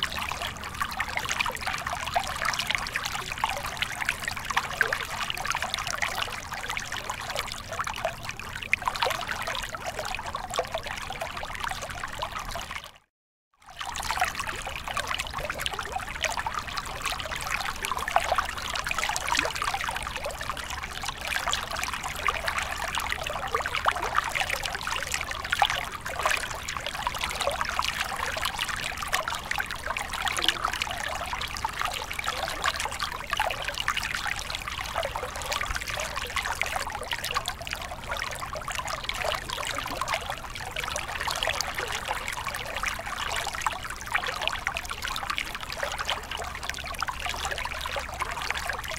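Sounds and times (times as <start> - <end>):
aquarium water trickling: 0.0 - 13.0, 13.7 - 48.9.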